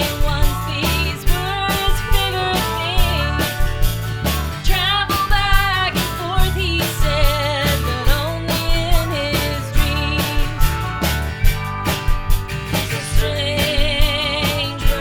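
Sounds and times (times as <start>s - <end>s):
country band playing: 0.0s - 15.0s
sliding lead melody: 0.0s - 15.0s.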